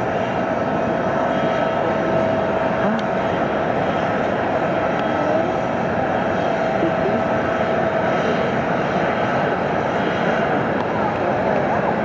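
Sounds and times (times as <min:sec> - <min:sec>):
jet engine rushing: 0:00.0 - 0:12.0
thin steady whine: 0:00.0 - 0:12.0.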